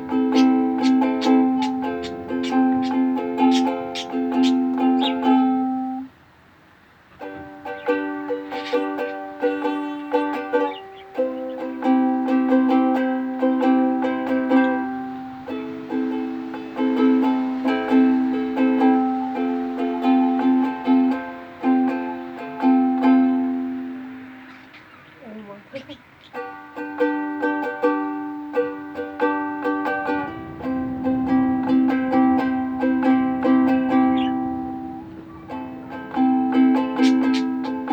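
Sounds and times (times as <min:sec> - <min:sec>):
ukulele picking: 0:00.0 - 0:06.2, 0:07.0 - 0:24.7, 0:25.8 - 0:37.9.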